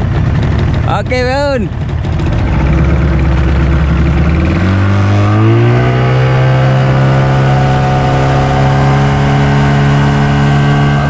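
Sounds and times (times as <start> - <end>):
outboard motor speeding up: 0.0 - 11.0.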